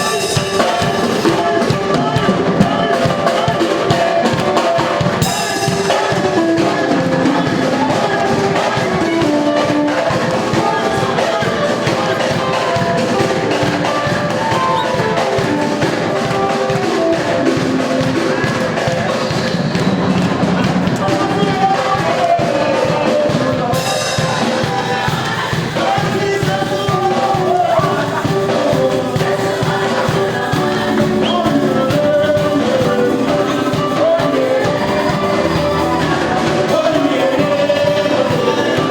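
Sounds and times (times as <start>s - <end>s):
drum kit beat: 0.0s - 38.9s
live band playing: 0.0s - 38.9s
person singing: 0.0s - 38.9s.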